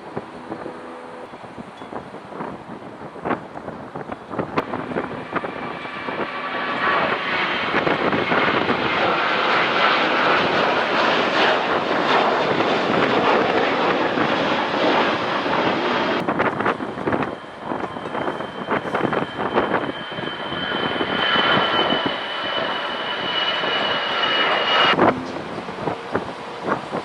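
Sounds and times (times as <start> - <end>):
jet airliner engines passing: 0.0 - 27.0.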